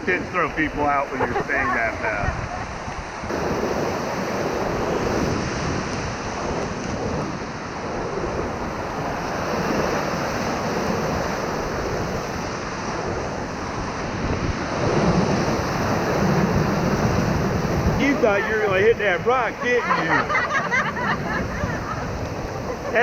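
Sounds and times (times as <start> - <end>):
whitewater rushing: 0.0 - 23.0
wind noise on microphone: 0.0 - 23.0.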